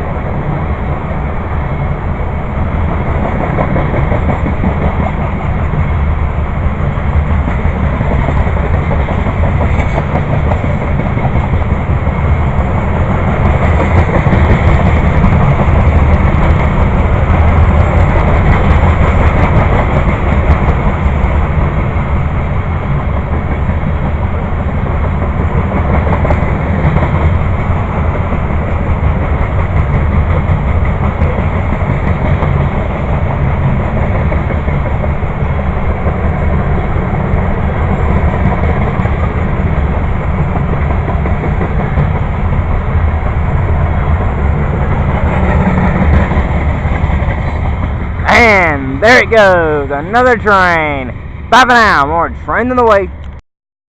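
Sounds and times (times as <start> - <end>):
freight train rolling past: 0.0 - 53.4.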